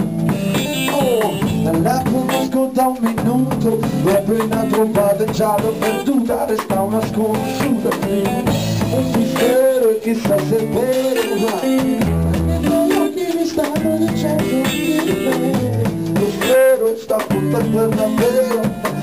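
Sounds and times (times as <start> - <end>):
drum kit: 0.0 - 19.0
electric guitar bending notes: 0.0 - 19.0.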